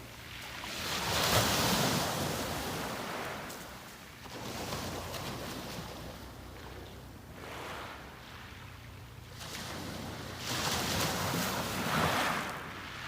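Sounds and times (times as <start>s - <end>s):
sea waves breaking: 0.0s - 13.0s.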